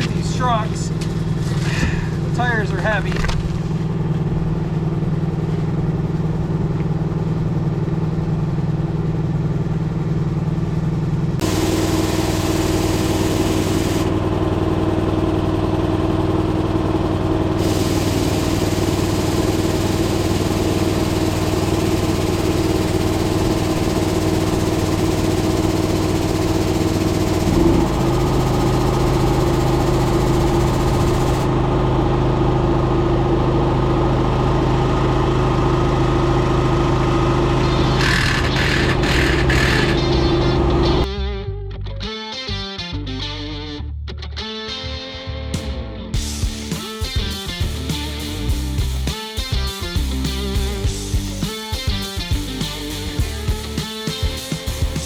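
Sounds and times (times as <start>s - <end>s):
engine idling: 0.0s - 41.1s, 46.2s - 55.0s.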